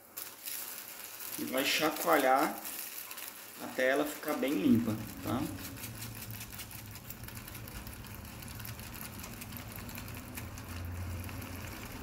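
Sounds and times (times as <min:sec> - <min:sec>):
foil crinkling: 0:00.0 - 0:12.0
jewellery rattling in a cup: 0:00.0 - 0:12.0.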